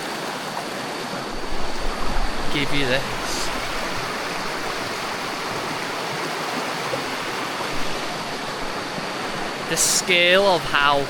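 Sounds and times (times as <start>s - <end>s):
stream rushing water: 0.0s - 11.0s.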